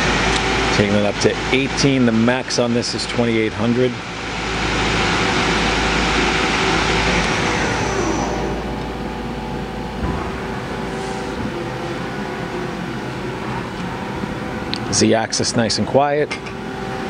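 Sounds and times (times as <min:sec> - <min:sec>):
lathe chuck spinning down whine: 0:00.0 - 0:17.0
steady machine hum: 0:00.0 - 0:17.0.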